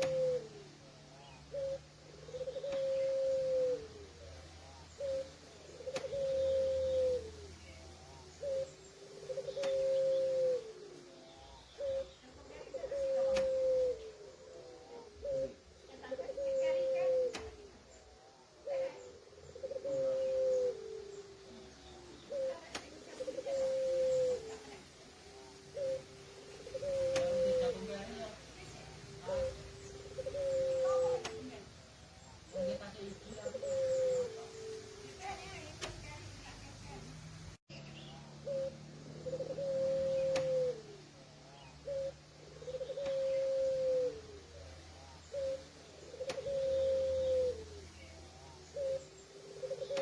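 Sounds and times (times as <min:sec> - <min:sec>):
dove cooing: 0:00.0 - 0:37.2, 0:38.2 - 0:50.0.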